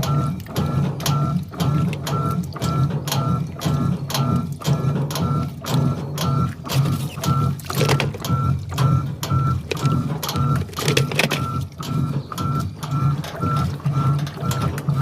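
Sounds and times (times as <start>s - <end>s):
washing machine pulsing hum: 0.0s - 15.0s.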